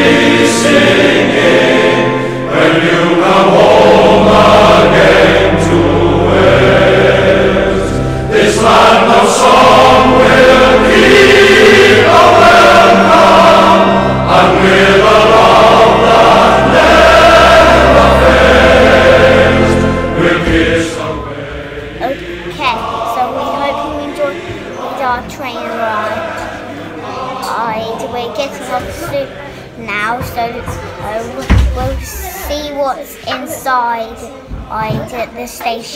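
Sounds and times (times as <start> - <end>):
steady low notes: 0.0 - 31.8
choir singing held chords: 0.0 - 35.6.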